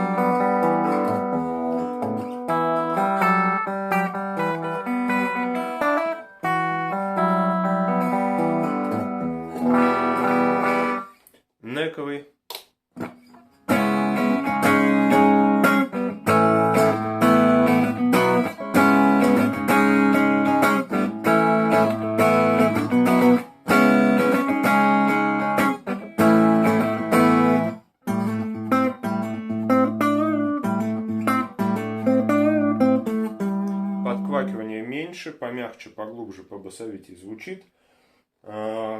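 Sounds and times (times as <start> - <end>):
electric guitar playing: 0.0 - 11.2, 13.0 - 34.9.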